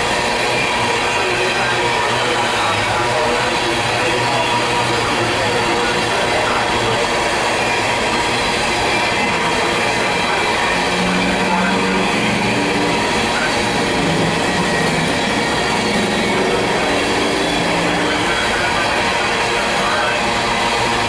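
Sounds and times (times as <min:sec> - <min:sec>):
train wheels on rails: 0:00.0 - 0:21.0.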